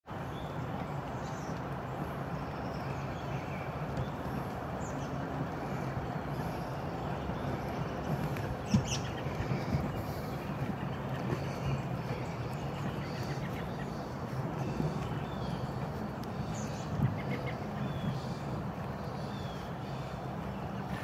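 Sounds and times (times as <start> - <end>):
outdoor background rumble: 0.1 - 21.0.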